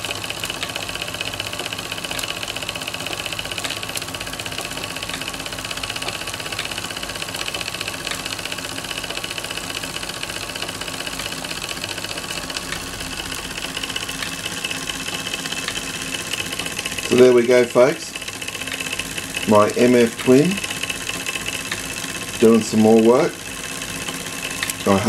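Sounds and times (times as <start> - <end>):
toy steam engine chuffing: 0.0 - 25.0.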